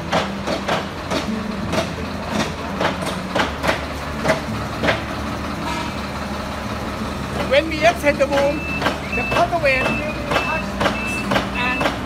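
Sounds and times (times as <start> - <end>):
sharp metallic knocks: 0.0 - 6.1, 8.3 - 12.0
crane engine running: 0.0 - 12.0.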